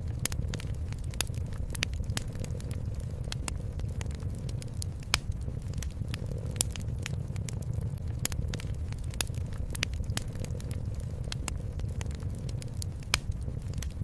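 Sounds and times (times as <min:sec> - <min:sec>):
low rumble: 0:00.0 - 0:14.0
wood fire crackling and popping: 0:00.0 - 0:14.0.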